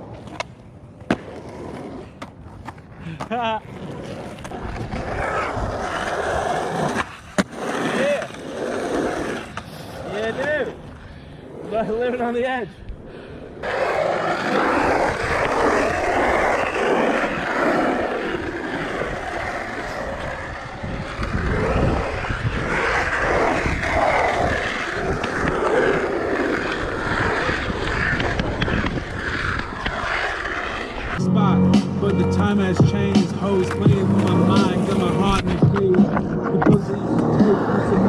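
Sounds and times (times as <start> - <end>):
skateboard wheels rolling: 0.0 - 38.0.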